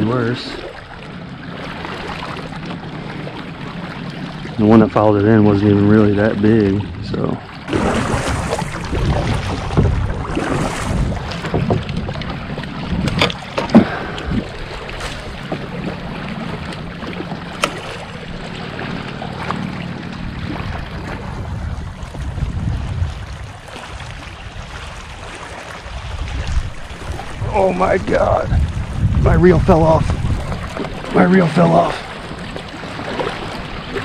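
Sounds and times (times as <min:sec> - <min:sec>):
water lapping around kayak: 0:00.0 - 0:34.0
wind buffeting microphone: 0:00.0 - 0:34.0.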